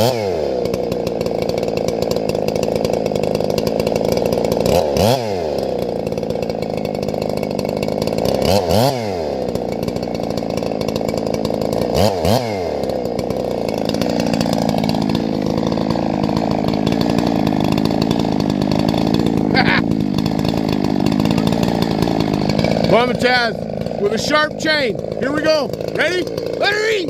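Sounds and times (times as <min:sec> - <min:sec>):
chainsaw running at high speed: 0:00.0 - 0:27.0.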